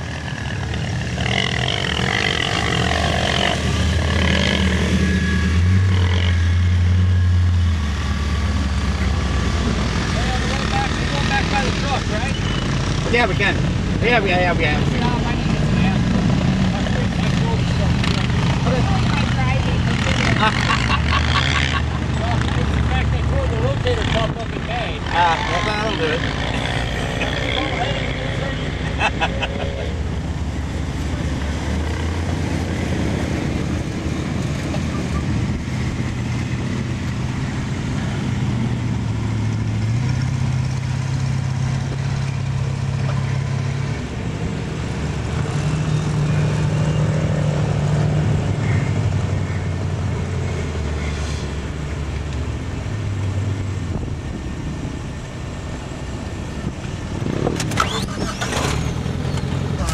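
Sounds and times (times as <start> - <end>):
engine revving: 0.0 - 54.0, 56.6 - 59.9.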